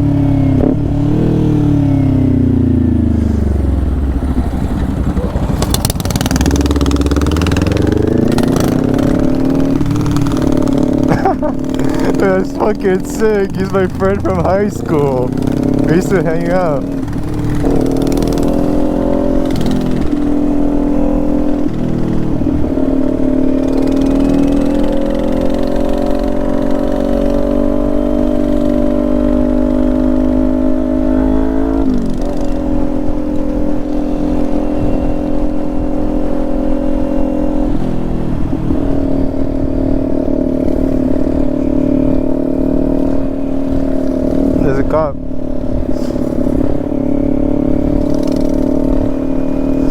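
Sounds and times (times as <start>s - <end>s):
motorcycle engine running: 0.0s - 49.9s
wind and road rumble: 0.0s - 49.9s.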